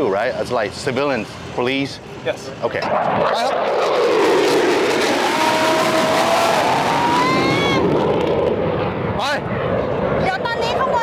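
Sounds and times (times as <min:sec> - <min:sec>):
jet roar with engine whine: 0:00.0 - 0:11.0.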